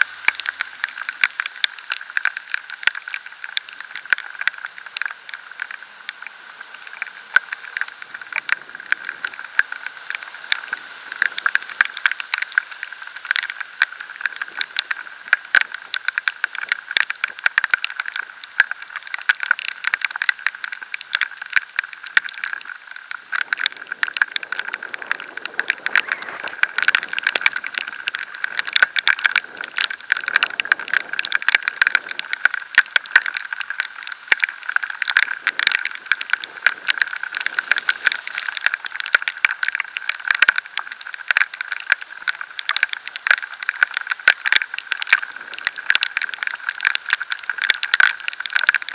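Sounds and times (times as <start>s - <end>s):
raindrops striking camera: 0.0s - 48.9s
steady hiss: 0.0s - 48.9s.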